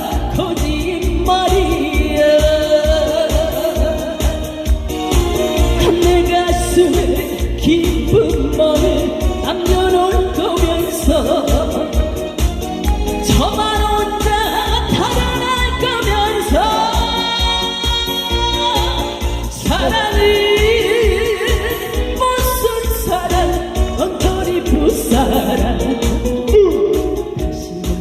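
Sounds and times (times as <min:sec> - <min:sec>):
instrumental accompaniment with beat: 0:00.0 - 0:28.0.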